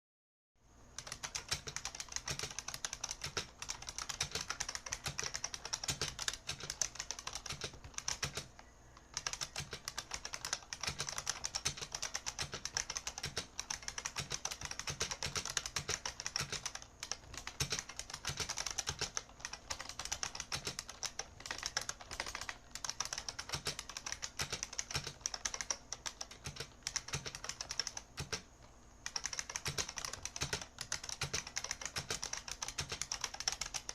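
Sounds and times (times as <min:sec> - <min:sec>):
keyboard typing clacks: 0:01.0 - 0:33.9.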